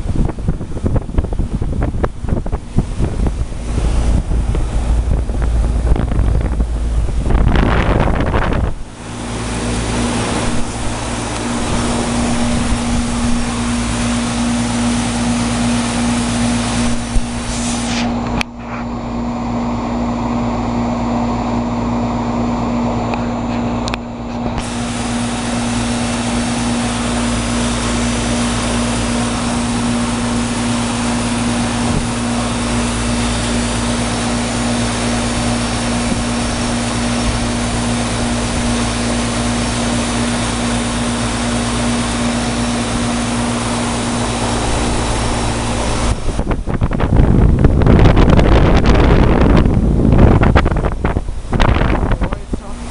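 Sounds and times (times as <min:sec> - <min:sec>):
heat pump compressor hum: 0:00.0 - 0:52.9
outdoor fan rushing: 0:00.0 - 0:52.9.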